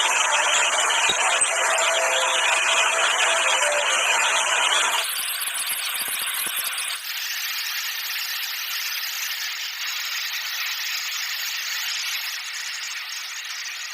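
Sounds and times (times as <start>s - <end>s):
metal-cutting machine hissing: 0.0s - 13.9s.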